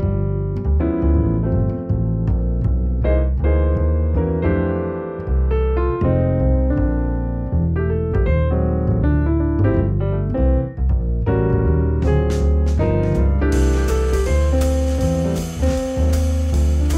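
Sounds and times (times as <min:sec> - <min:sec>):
bass line: 0:00.0 - 0:16.9
piano melody: 0:00.0 - 0:16.9.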